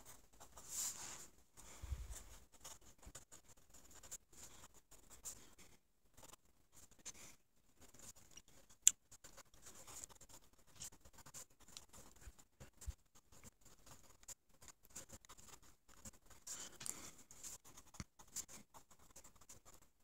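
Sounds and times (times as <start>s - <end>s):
pencil scratching on paper: 0.0s - 20.0s.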